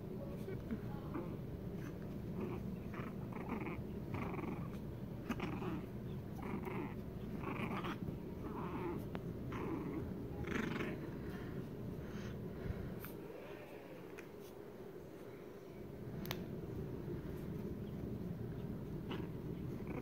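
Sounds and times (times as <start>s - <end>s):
puppy play-growling: 0.3s - 13.3s, 16.8s - 20.0s.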